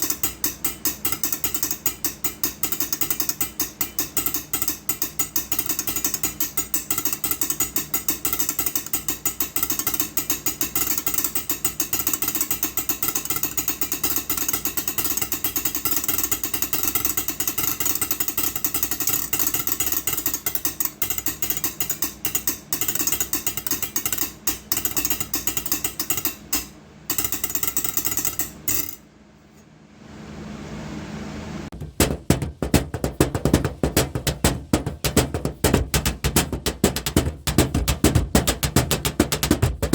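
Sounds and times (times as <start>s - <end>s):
rapid tapping on hard object: 0.0s - 29.0s, 31.7s - 39.9s.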